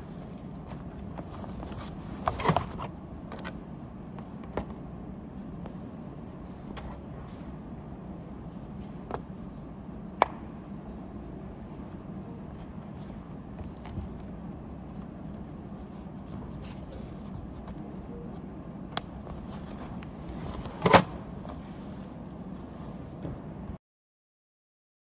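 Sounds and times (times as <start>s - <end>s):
low room hum: 0.0s - 23.8s.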